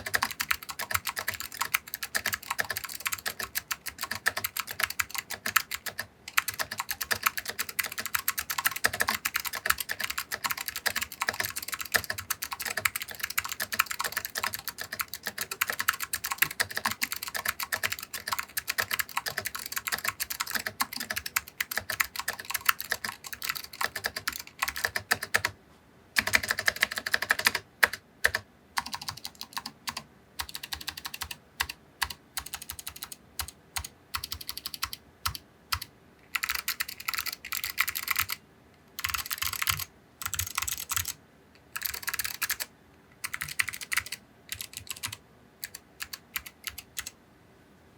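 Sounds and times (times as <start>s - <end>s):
clicky mechanical keyboard typing: 0.0s - 25.6s, 26.2s - 38.4s, 39.0s - 47.2s.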